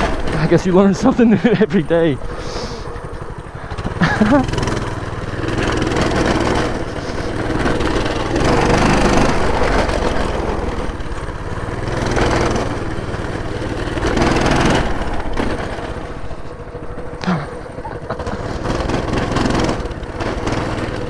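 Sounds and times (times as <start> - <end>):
minibike engine revving: 0.0 - 21.0.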